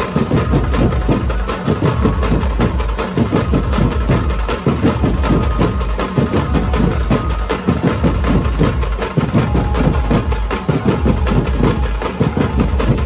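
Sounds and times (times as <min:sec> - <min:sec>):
barrel drums beaten fast: 0:00.0 - 0:13.0.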